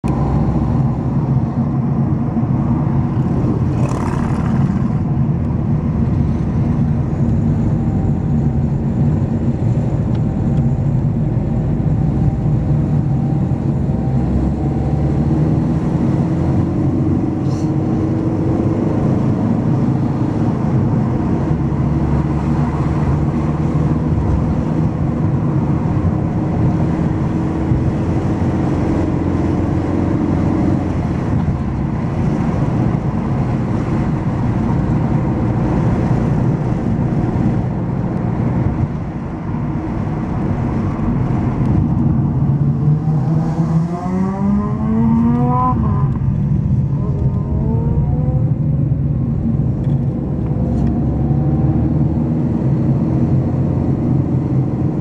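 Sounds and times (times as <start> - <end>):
car engine and tyre noise: 0.0 - 55.0
car rushing past: 2.5 - 6.6, 14.4 - 55.0.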